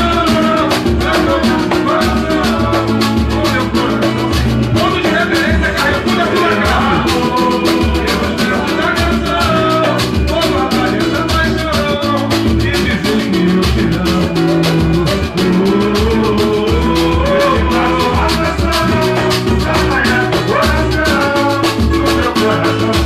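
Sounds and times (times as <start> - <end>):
band playing latin music: 0.0 - 23.0.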